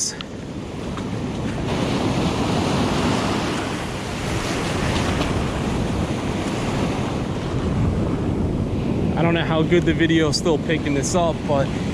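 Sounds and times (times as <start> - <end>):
ocean surf breaking on beach: 0.0 - 11.9
wind buffeting microphone: 0.0 - 11.9.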